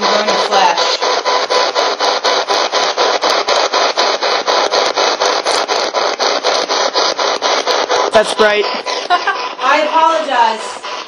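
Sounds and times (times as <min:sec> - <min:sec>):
pulsing radio static: 0:00.0 - 0:10.9.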